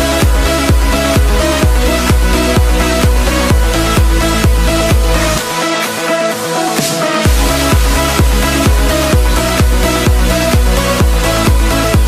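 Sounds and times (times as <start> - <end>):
kick drum beat: 0.0 - 5.6, 7.2 - 12.0
electronic dance music: 0.0 - 12.0.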